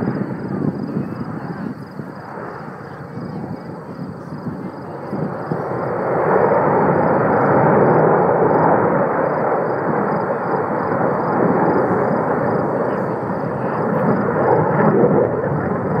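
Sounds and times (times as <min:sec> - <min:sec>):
jet aircraft roaring: 0:00.0 - 0:16.0.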